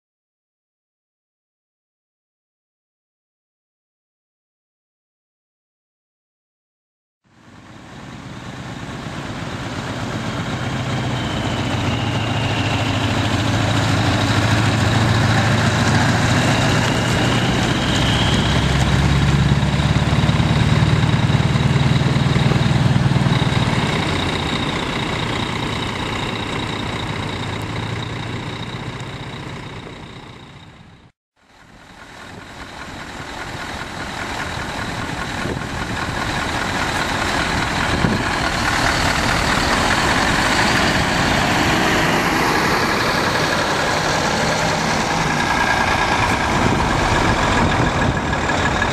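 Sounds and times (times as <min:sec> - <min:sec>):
truck diesel engines driving past: 0:07.3 - 0:48.9.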